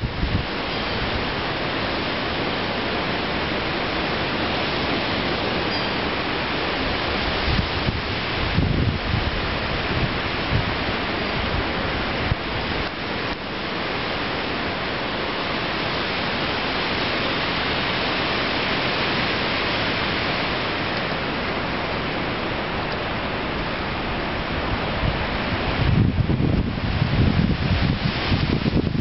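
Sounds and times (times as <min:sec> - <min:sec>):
wind through pine trees: 0:00.0 - 0:29.0.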